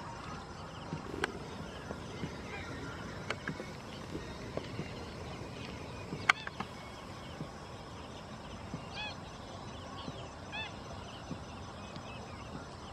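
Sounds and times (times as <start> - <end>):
faint small birds chirping: 0.0 - 12.9
rising and falling bird calls: 0.0 - 12.9.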